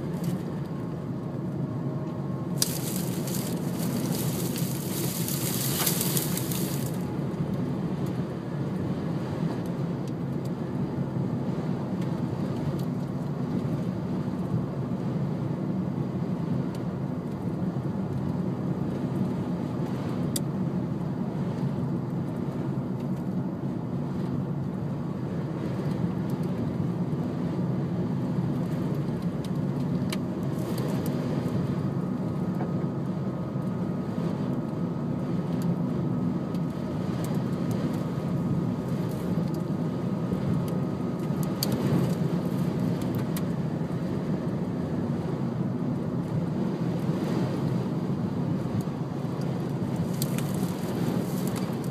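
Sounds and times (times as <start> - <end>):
car driving rumble from inside: 0.0 - 51.9.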